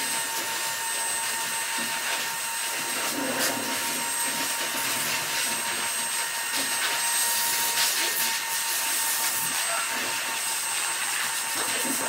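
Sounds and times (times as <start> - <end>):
electric blower motor hissing: 0.0 - 12.0
grooming brush strokes through fur: 0.0 - 12.0.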